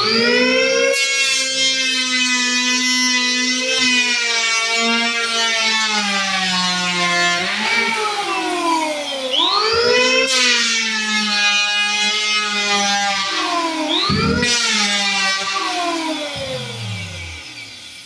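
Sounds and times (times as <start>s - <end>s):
electric power planer whining: 0.0s - 18.0s.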